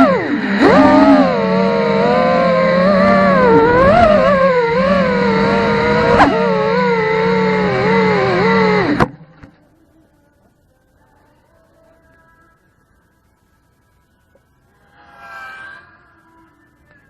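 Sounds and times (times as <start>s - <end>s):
drone motors whining: 0.0s - 10.1s, 11.7s - 17.0s
low steady hum: 0.0s - 17.0s.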